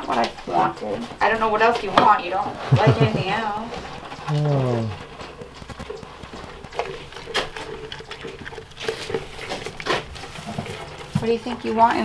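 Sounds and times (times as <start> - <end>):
goat eating grain rustling: 1.8 - 12.0.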